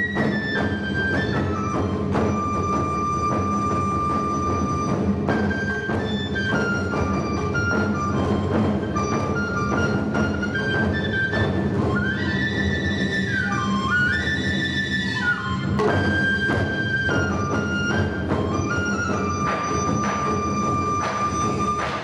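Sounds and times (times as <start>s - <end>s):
drum strokes: 0.0s - 22.0s
live instrumental ensemble music: 0.0s - 22.0s.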